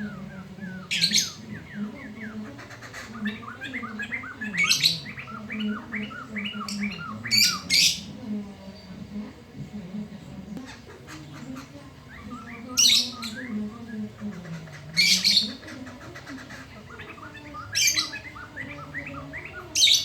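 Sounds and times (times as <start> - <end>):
laughingthrush singing loudly: 0.0 - 8.2, 10.6 - 20.0.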